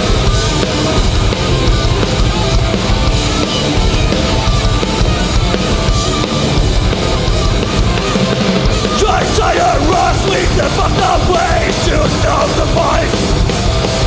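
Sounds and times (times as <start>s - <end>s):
bass guitar: 0.0s - 14.0s
loud distorted guitars: 0.0s - 14.0s
pounding drums: 0.0s - 14.0s.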